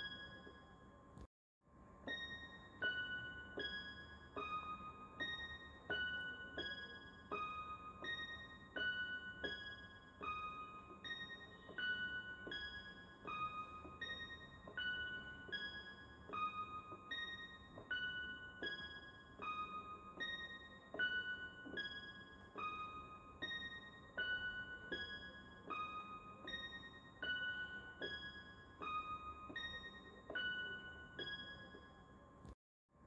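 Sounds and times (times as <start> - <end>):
simple piano tune: 0.0 - 32.6.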